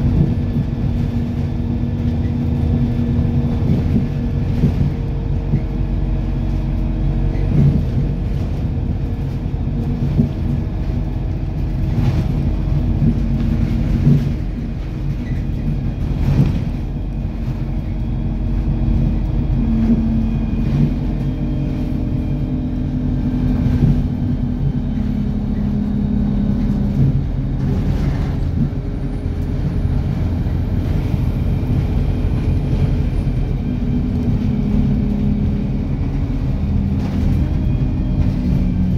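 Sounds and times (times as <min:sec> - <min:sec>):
vehicle road and engine rumble: 0:00.0 - 0:38.9.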